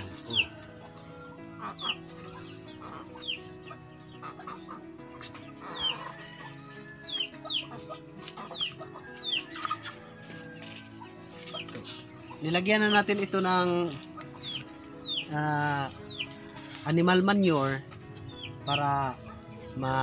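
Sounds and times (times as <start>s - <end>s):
chicks peeping: 0.0s - 20.0s
quiet background music: 0.0s - 20.0s.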